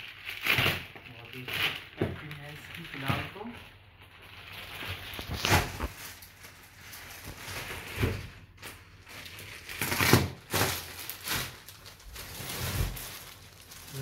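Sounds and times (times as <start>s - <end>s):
plastic shrink-wrap crinkling: 0.0s - 14.0s.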